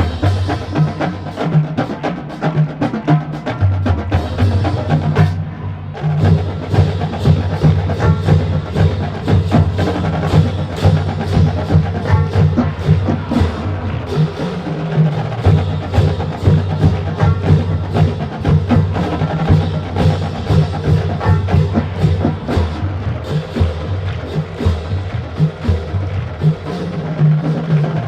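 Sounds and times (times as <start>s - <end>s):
marching band playing: 0.0s - 28.0s.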